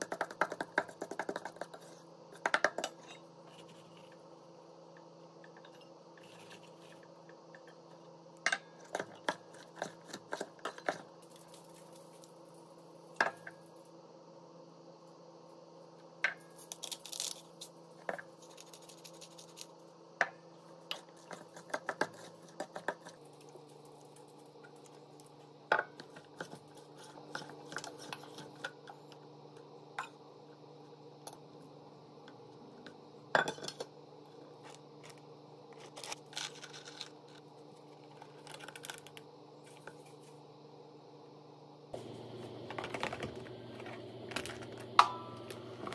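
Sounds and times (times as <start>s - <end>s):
low steady hum: 1.5s - 45.9s.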